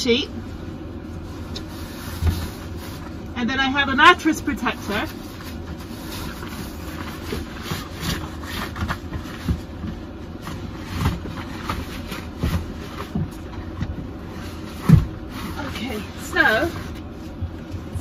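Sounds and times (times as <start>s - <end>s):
bedding rustling: 0.1s - 18.0s.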